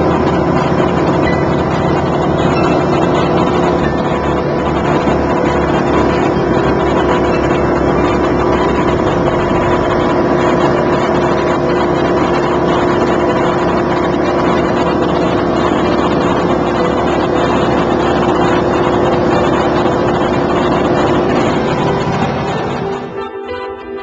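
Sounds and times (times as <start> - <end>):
light airplane engine drone: 0.0 - 24.0.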